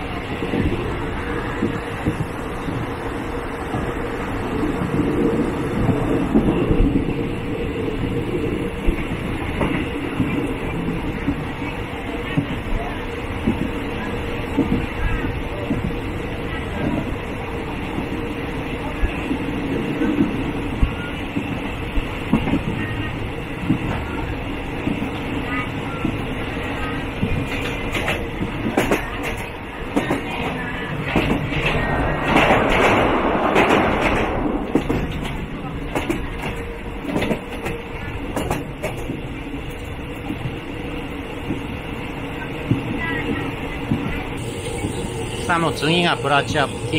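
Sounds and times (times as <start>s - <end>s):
train wheels on rail: 0.0s - 46.9s.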